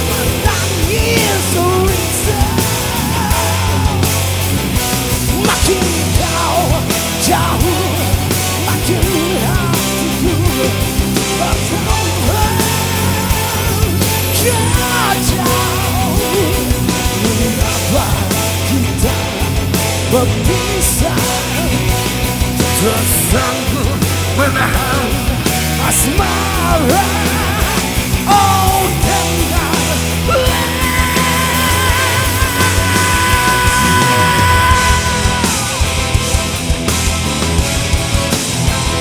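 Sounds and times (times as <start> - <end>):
rock band playing live: 0.0 - 39.0.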